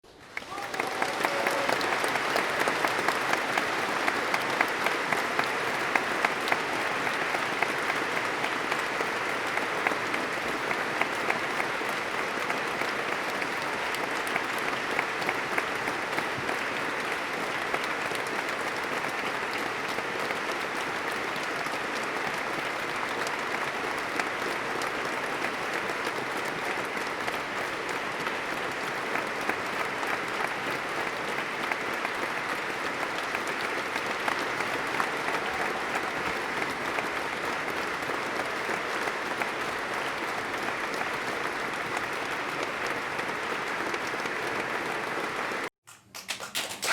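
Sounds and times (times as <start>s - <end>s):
audience applauding: 0.0s - 46.9s.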